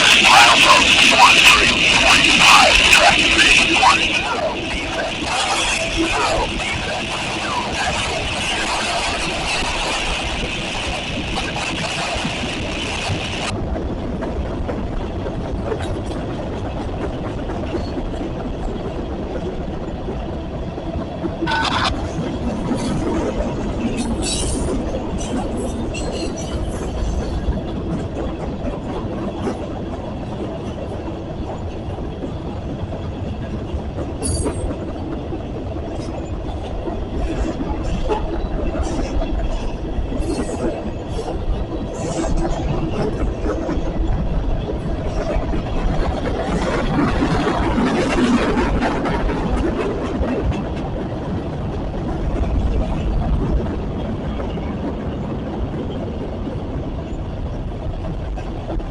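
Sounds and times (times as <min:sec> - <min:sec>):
freight train rumbling past: 0:00.0 - 0:58.9.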